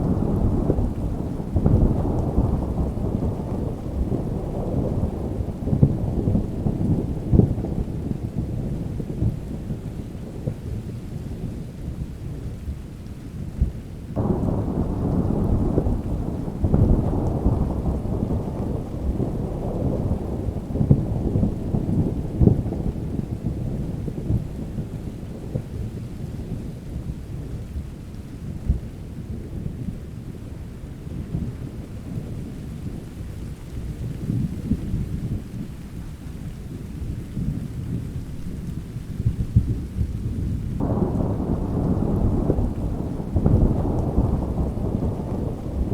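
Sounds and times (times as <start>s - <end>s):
rolling thunder: 0.0s - 11.7s, 13.6s - 45.9s
steady rain: 0.0s - 45.9s.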